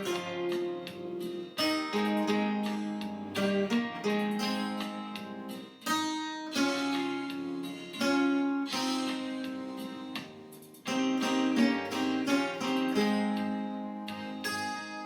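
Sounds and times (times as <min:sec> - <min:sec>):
plucked guitar hymn tune: 0:00.0 - 0:15.0.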